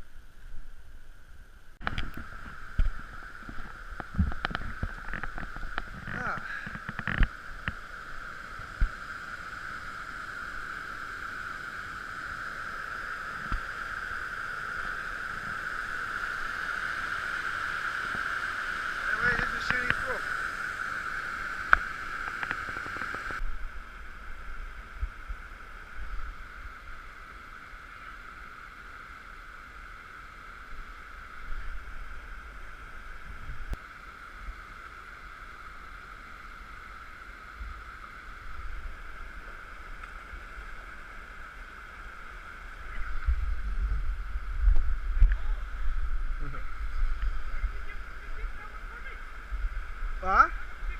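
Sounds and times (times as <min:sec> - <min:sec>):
brook water rushing: 0:01.8 - 0:50.9.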